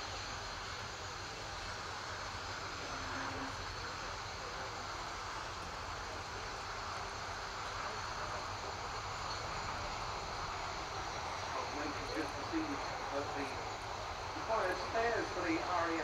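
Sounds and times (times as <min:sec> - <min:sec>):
distant jet engine noise: 0:00.0 - 0:16.0.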